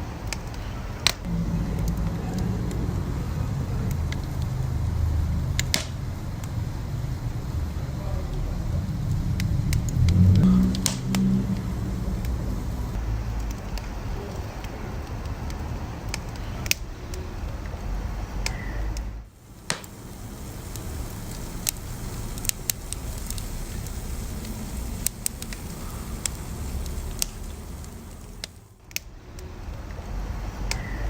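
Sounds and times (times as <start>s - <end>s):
fire crackles and pops: 0.0s - 31.0s
wood fire rumble: 0.0s - 31.0s.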